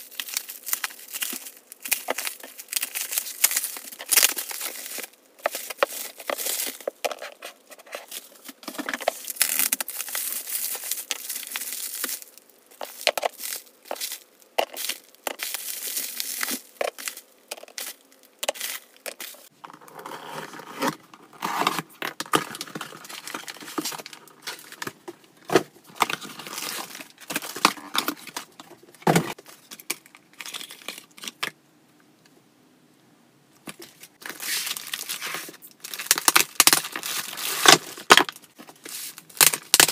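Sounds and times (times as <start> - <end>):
bubble wrap crinkling: 0.0 - 31.4, 33.7 - 39.9.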